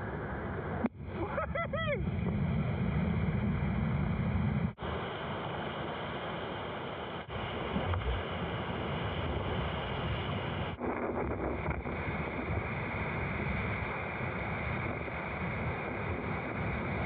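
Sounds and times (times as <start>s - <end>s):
wind on the microphone: 0.0s - 17.0s.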